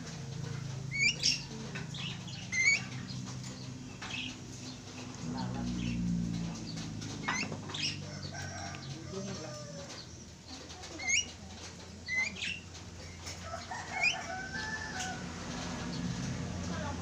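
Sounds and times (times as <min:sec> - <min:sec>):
birds chattering softly: 0:00.0 - 0:17.0
birds calling sharply: 0:00.3 - 0:17.0.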